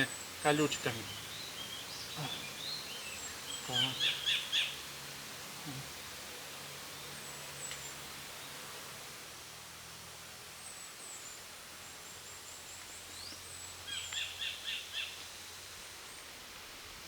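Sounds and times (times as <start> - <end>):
soft background hiss: 0.0 - 17.0.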